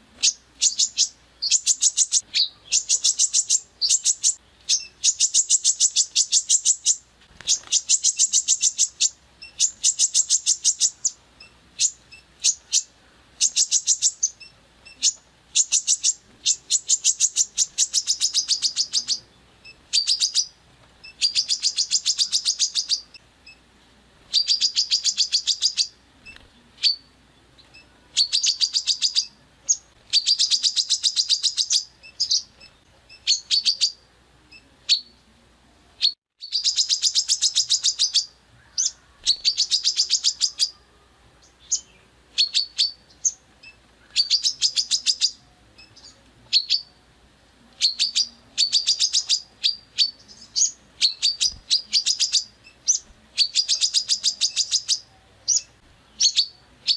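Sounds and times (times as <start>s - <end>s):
songbird singing rapid bursts: 0.0s - 35.3s, 36.0s - 56.9s.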